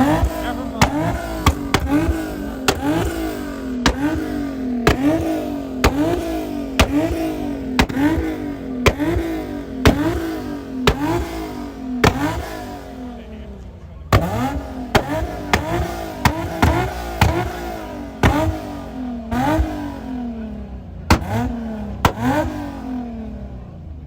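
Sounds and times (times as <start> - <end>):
exhaust crack: 0.0 - 23.9
car engine revving: 0.0 - 24.0.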